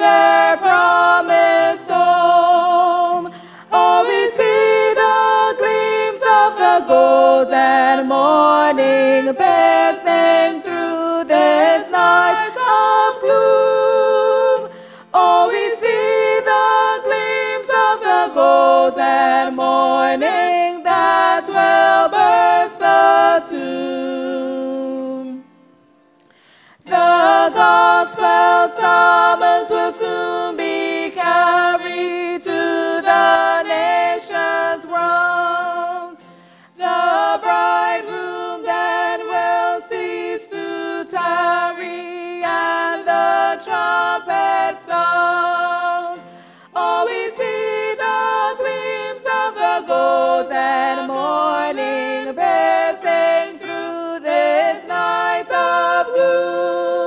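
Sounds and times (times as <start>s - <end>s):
women singing unaccompanied: 0.0s - 25.5s, 26.8s - 57.0s.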